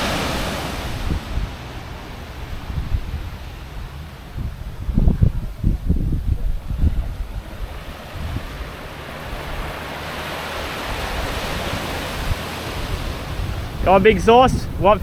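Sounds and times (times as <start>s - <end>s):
ocean surf on beach: 0.0s - 15.0s
wind on microphone: 0.0s - 15.0s.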